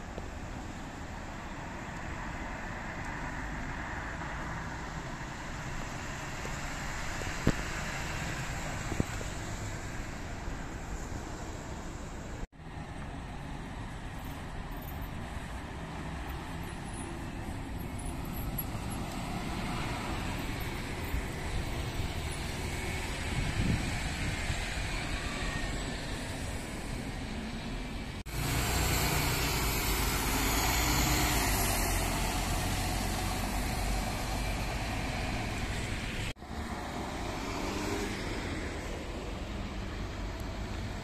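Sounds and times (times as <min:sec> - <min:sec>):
traffic rumble of engines and tyres: 0:00.0 - 0:41.0
bus passing close: 0:00.8 - 0:41.0.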